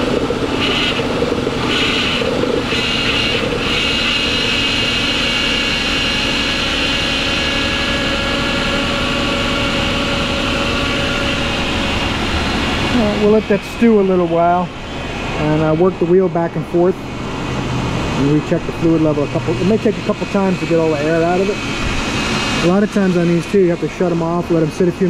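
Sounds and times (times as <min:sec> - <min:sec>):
car engine idling: 0:00.0 - 0:25.0
power steering pump whining: 0:00.0 - 0:25.0.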